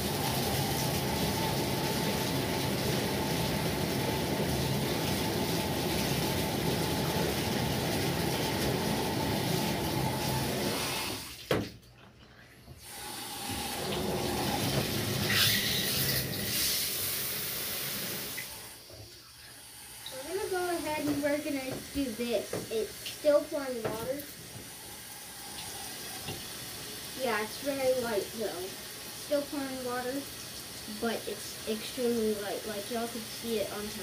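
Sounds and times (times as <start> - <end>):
shower water running into bathtub: 0.0 - 34.0.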